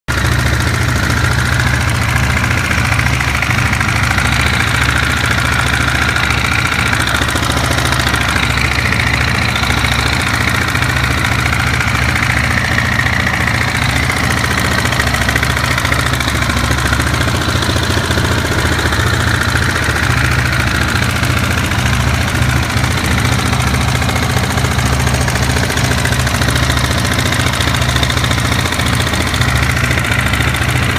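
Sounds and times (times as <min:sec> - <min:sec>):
mechanical engine noise: 0:00.1 - 0:30.9
motorcycle engine idling: 0:00.1 - 0:30.9.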